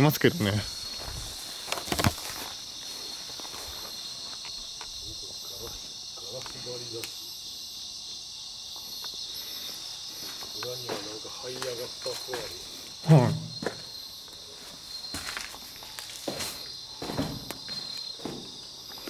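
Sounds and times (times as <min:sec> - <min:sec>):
insects shrilling: 0:00.0 - 0:19.0.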